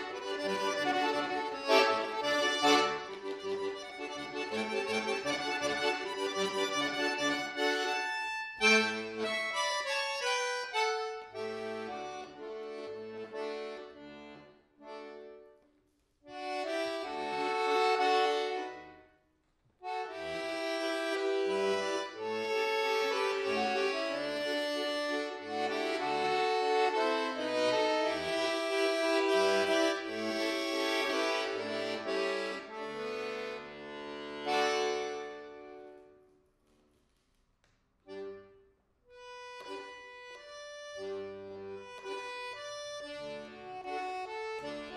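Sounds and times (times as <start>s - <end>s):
button accordion melody: 0.0s - 15.6s, 16.2s - 19.2s, 19.8s - 36.3s, 38.1s - 44.9s.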